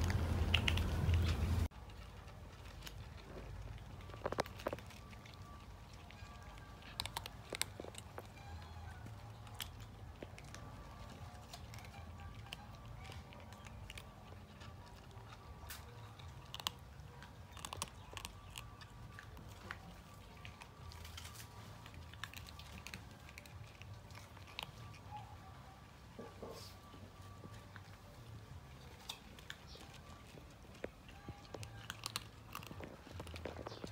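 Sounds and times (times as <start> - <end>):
cat crunching dry kibble: 0.0 - 33.9.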